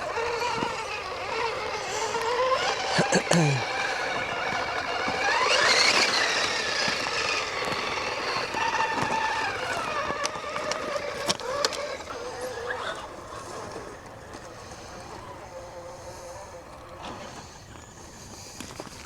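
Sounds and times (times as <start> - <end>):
electric motor and gear whine: 0.0 - 19.0.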